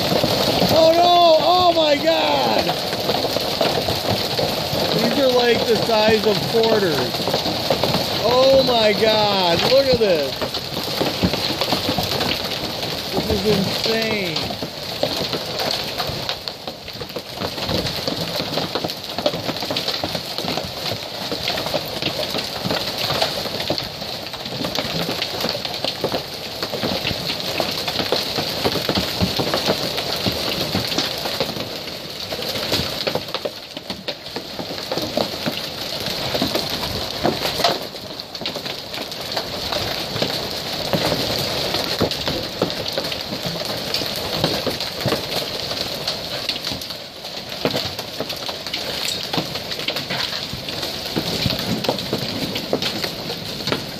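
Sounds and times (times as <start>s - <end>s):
hail clattering on pavement: 0.0s - 53.9s.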